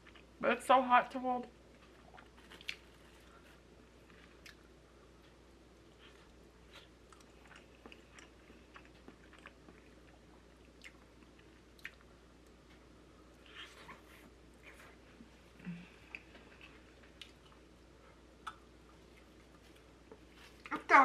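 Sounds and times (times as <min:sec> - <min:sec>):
quiet room hum: 0:00.0 - 0:21.0
chewing sticky rice: 0:01.8 - 0:20.8.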